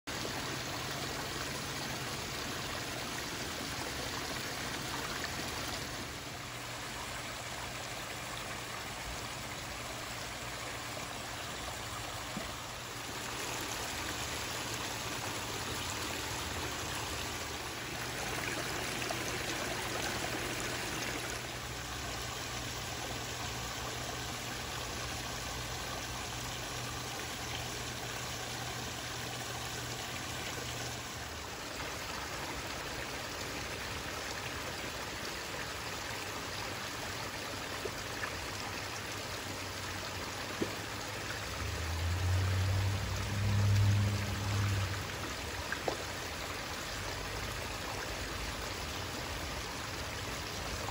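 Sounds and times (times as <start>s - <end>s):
waterfall splashing into pond: 0.1s - 50.9s.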